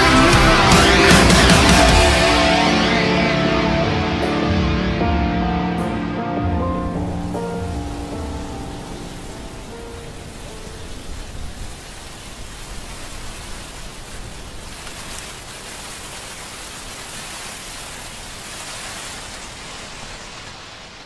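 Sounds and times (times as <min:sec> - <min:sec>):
steady rain-like hiss: 0:00.0 - 0:03.5, 0:06.2 - 0:21.0.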